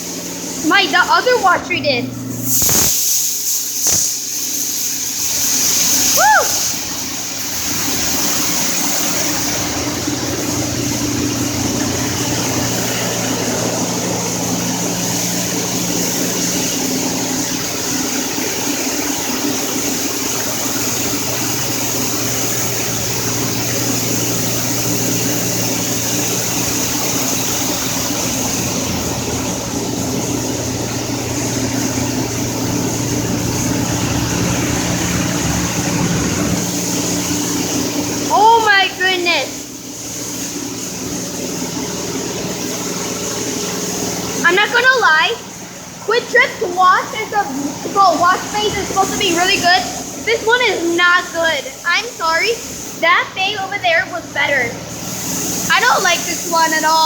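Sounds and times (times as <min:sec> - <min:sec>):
hiss of spraying water: 0:00.0 - 0:57.0
low mechanical hum: 0:00.0 - 0:57.0.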